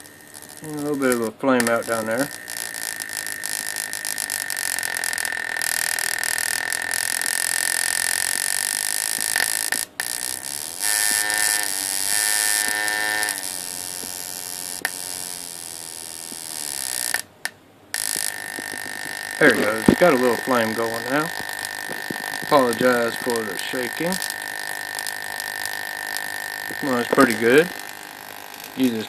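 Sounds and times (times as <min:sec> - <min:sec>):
buzzing hiss: 0:00.0 - 0:29.0
high-pitched electrical whine: 0:00.0 - 0:29.0.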